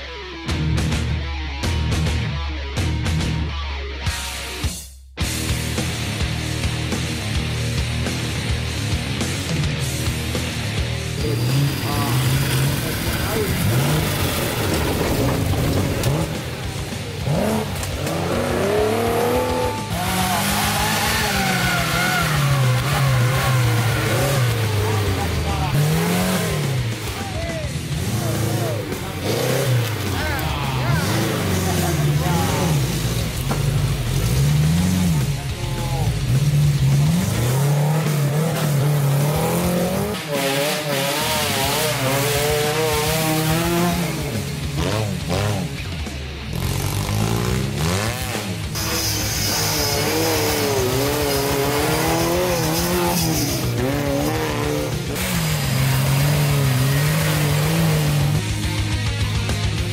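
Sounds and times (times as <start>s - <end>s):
off-road engines revving: 5.2s - 59.9s.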